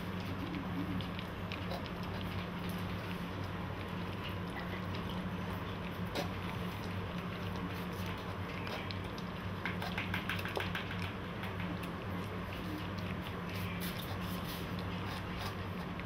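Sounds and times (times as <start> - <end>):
puppies chewing and lapping: 0.0 - 16.0
steady low hum: 0.0 - 16.0.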